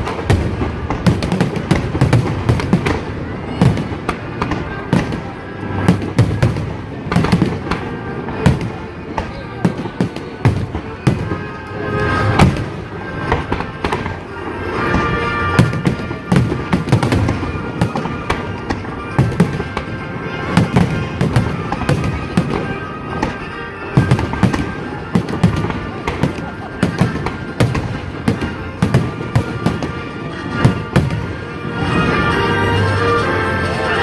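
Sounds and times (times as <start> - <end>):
fireworks bangs: 0.0 - 33.2
music playing: 0.0 - 34.0.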